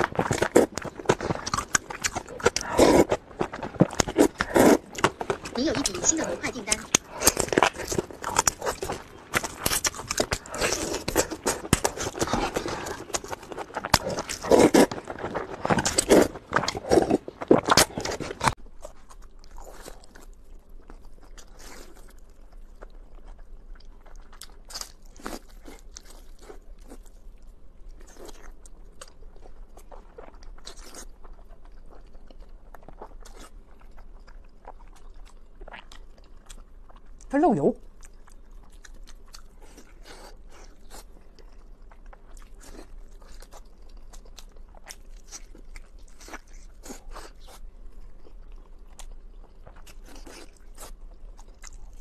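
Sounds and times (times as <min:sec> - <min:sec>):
crunching and chewing meat: 0:00.0 - 0:52.0.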